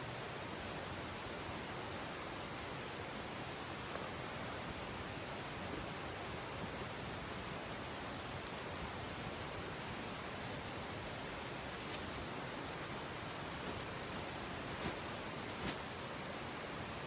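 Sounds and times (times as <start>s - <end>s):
campfire pops and crackles: 0.0s - 16.9s.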